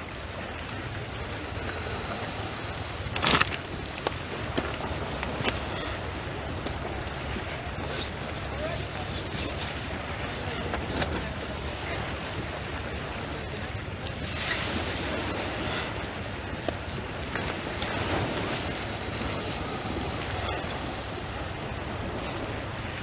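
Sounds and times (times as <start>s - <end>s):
small waves on pebble beach: 0.0s - 23.0s.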